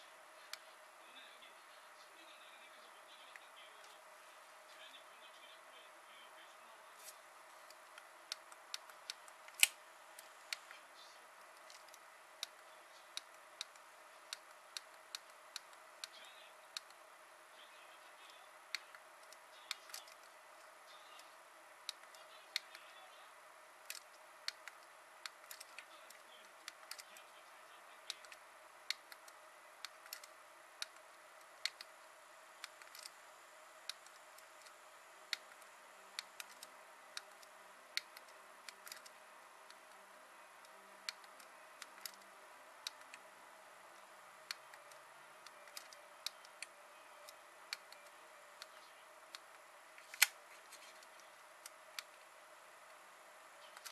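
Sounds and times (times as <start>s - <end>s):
faint steady hiss: 0.0s - 53.9s.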